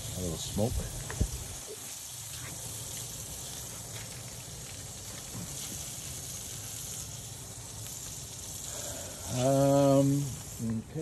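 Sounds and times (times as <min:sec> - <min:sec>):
grill sizzling hiss: 0:00.0 - 0:11.0
faint crackles: 0:00.8 - 0:11.0.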